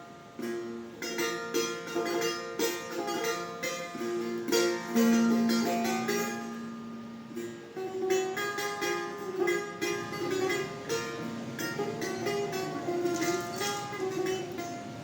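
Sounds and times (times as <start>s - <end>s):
plucked lute notes: 0.0s - 15.0s.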